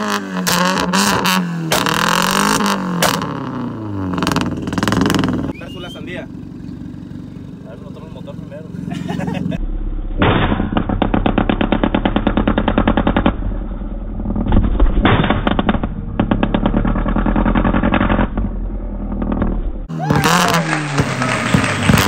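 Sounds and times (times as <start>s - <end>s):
car exhaust crackling bangs: 0.0s - 5.6s, 9.8s - 22.0s.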